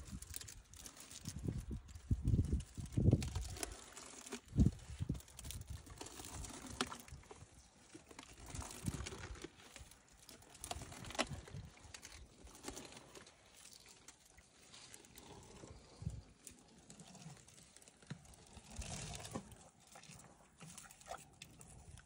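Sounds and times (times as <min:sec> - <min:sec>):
elephant chewing twigs: 0:00.0 - 0:22.0.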